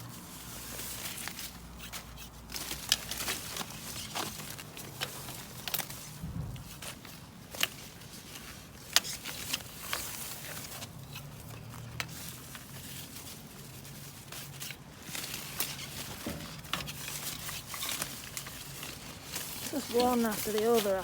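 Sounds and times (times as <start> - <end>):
rustling in a hedge: 0.0 - 21.0.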